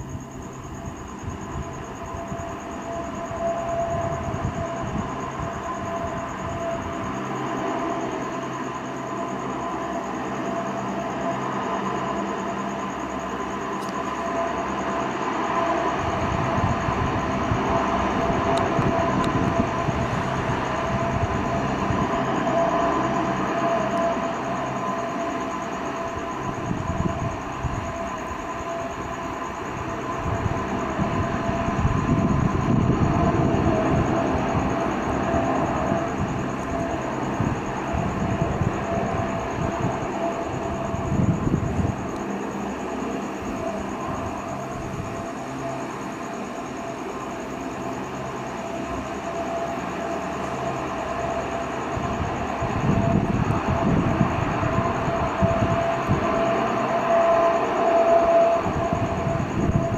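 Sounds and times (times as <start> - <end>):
jet engine roar with whine: 0.0 - 59.9.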